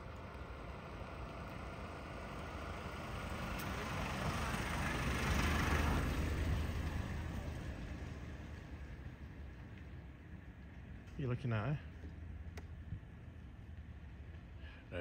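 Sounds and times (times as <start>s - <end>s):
road vehicle passing by: 0.0s - 15.0s.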